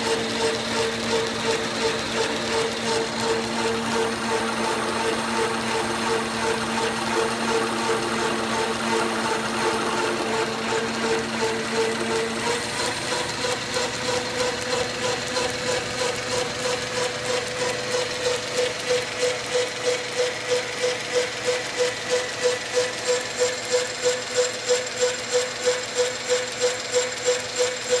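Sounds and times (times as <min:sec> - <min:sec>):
metal lathe running: 0:00.0 - 0:28.0
pulsing mechanical hum: 0:00.0 - 0:28.0.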